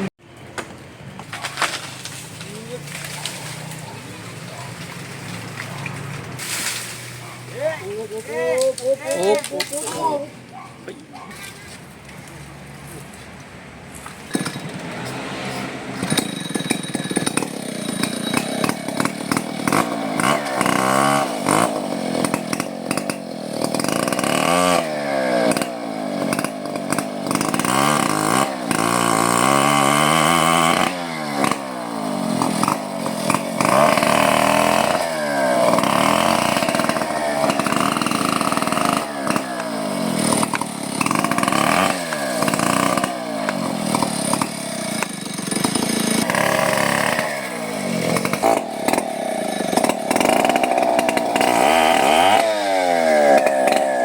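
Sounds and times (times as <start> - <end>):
chainsaw cutting wood: 1.2 - 10.3, 14.0 - 54.0.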